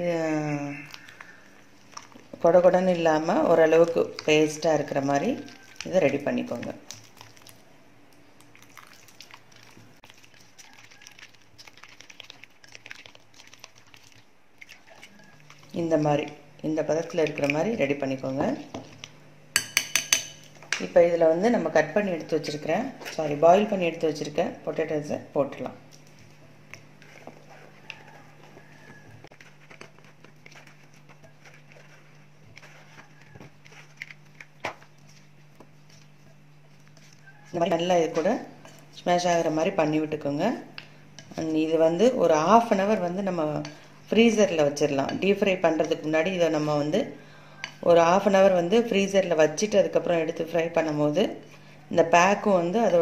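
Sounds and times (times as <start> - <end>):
batter squelching: 0.0 - 53.0
low steady hum: 0.0 - 53.0.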